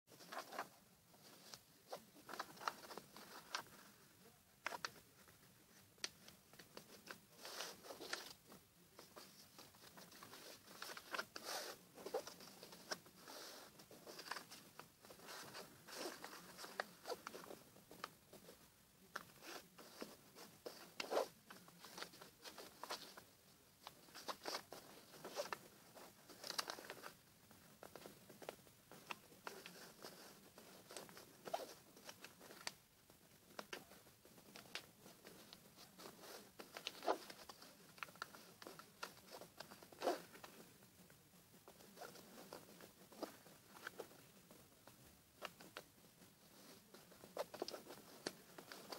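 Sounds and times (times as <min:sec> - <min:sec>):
paper rustling and crinkling: 0:00.1 - 0:32.8, 0:33.4 - 0:40.8, 0:41.7 - 0:48.9.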